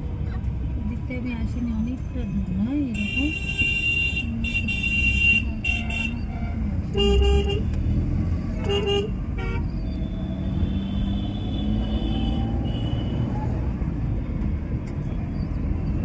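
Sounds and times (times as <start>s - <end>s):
low rumble of street noise: 0.0s - 16.0s.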